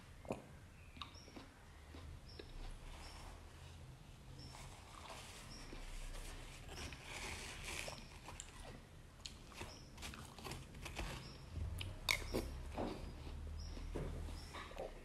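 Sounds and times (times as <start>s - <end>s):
person chewing watermelon: 0.1s - 3.5s, 4.4s - 15.0s.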